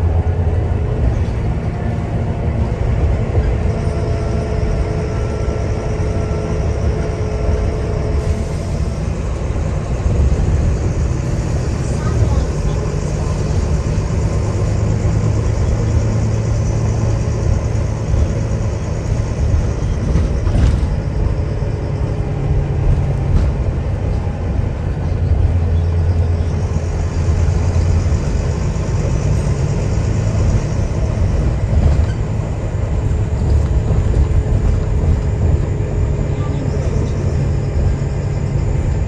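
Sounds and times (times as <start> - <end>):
bus diesel engine drone: 0.0 - 39.0
road noise: 0.0 - 39.0.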